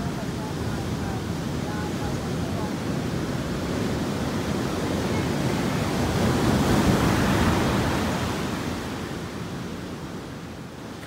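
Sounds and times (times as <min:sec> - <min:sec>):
wave washing on pebble beach: 0:00.0 - 0:09.7.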